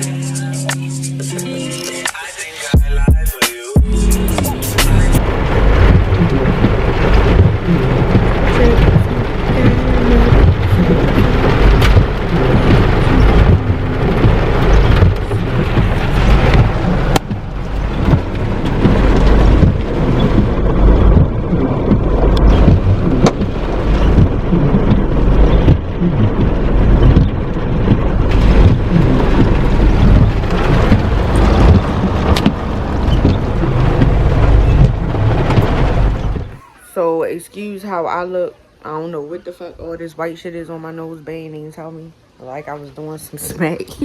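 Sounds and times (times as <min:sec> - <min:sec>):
low rumbling and buffeting: 0:00.0 - 0:44.0.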